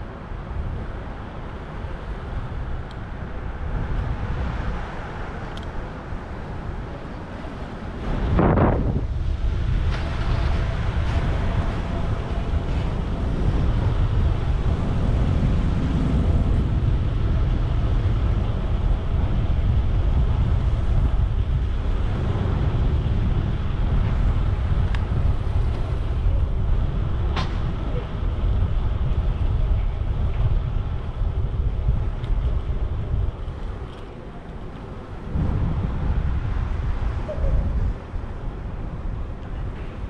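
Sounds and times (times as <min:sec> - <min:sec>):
city street traffic: 0:00.0 - 0:40.0
wind buffeting microphone: 0:00.0 - 0:40.0.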